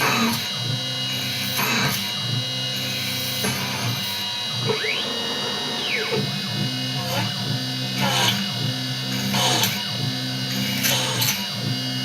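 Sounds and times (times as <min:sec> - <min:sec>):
cutter cutting metal: 0:00.0 - 0:12.0
milling spindle whine: 0:00.0 - 0:12.0.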